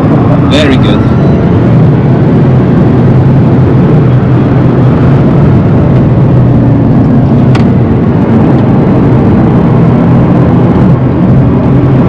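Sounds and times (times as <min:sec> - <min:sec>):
tyre and wind roar in car cabin: 0:00.0 - 0:12.0.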